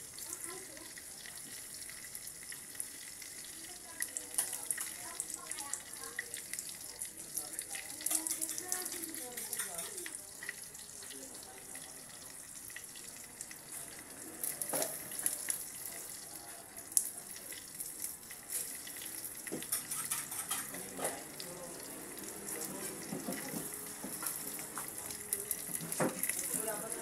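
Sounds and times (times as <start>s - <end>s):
eggs sizzling in oil: 0.0s - 27.0s
oil popping and crackling: 0.0s - 27.0s.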